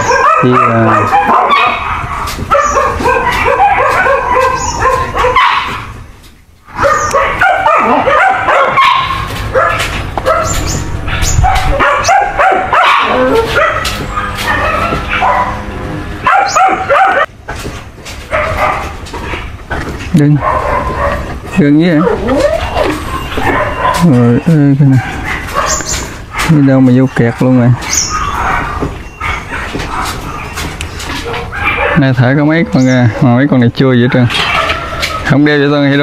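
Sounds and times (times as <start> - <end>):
dogs barking and yipping: 0.0 - 36.0.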